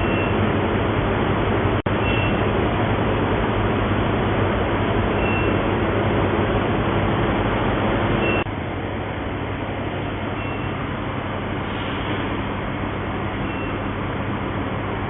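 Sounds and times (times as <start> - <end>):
cooling fan rushing: 0.0 - 15.0
furnace hum: 0.0 - 15.0.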